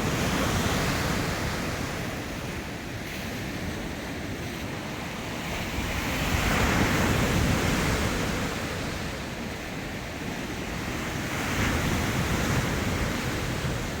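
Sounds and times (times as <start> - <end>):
ocean waves breaking on shore: 0.0 - 14.0.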